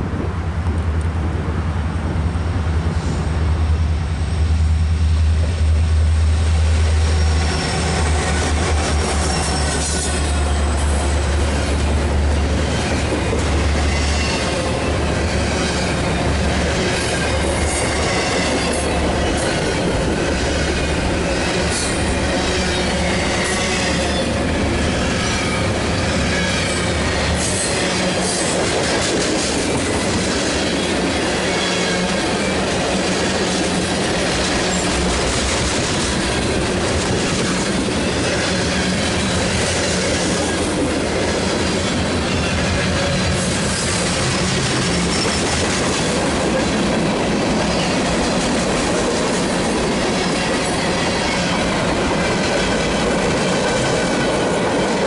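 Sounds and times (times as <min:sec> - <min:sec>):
diesel locomotive rumble: 0:00.0 - 0:55.0
train wheel squeal: 0:06.4 - 0:46.9, 0:47.6 - 0:48.6, 0:49.4 - 0:55.0.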